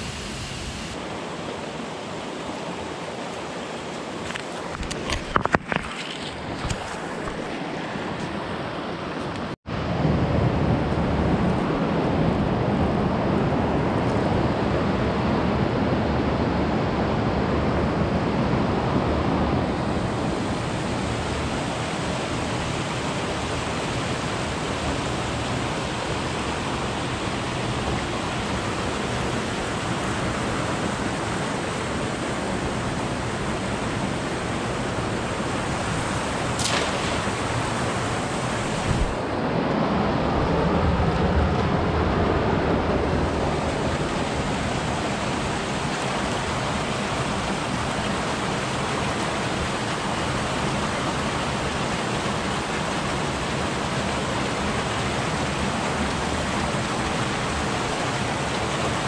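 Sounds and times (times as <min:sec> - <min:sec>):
river rushing over boulders: 0:00.9 - 0:59.0.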